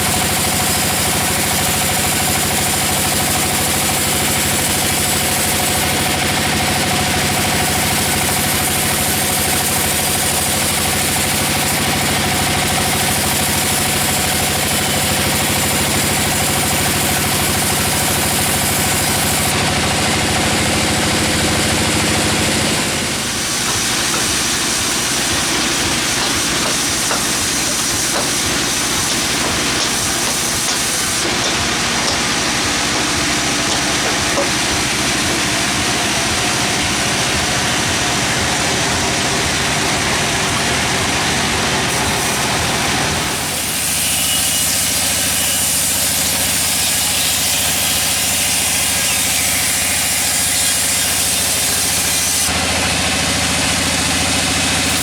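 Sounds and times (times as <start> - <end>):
saw blade cutting log: 0.0 - 55.0
sawmill engine running: 0.0 - 55.0.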